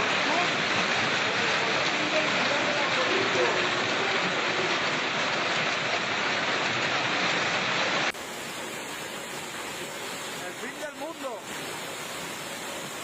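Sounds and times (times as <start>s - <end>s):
quieter rush of water: 0.0s - 13.0s
storm downpour hiss: 0.0s - 13.0s.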